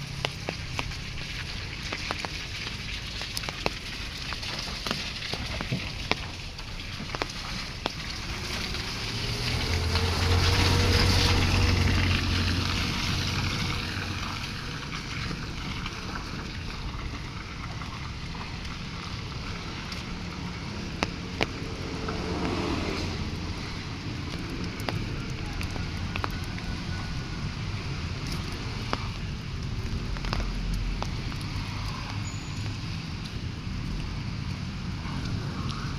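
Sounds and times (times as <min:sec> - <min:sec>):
hiss of wet road and drizzle: 0:00.0 - 0:35.9
vehicle passing on wet road: 0:00.0 - 0:35.9.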